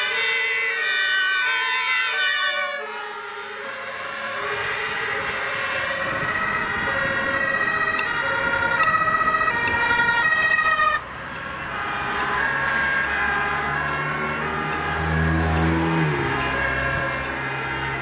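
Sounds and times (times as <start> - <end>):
two-tone emergency siren: 0.0 - 18.0
vehicle engine and tyre noise: 0.0 - 18.0.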